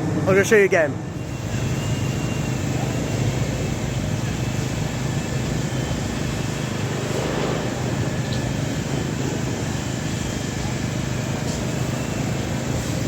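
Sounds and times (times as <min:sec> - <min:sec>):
distant engines rumbling: 0:00.0 - 0:13.0
outdoor background noise: 0:00.0 - 0:13.0.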